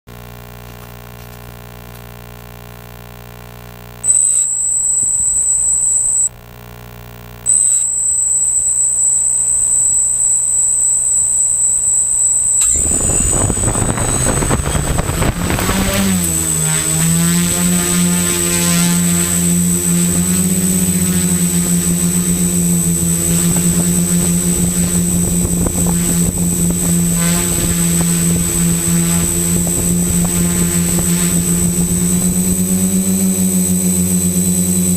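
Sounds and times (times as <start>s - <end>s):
drone motors and propellers spinning: 4.0s - 6.3s, 7.5s - 34.9s
high-pitched whine: 4.0s - 6.5s, 7.5s - 34.9s.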